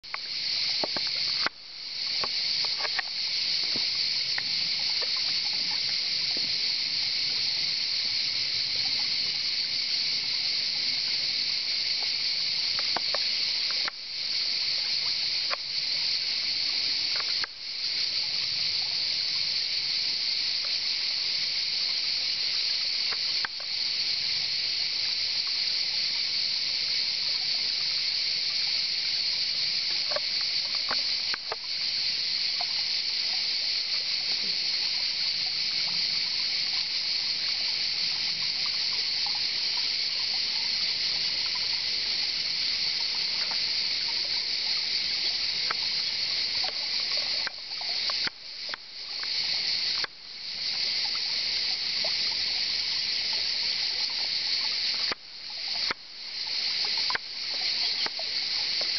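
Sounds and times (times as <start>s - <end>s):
cicadas buzzing: 0.0s - 58.9s.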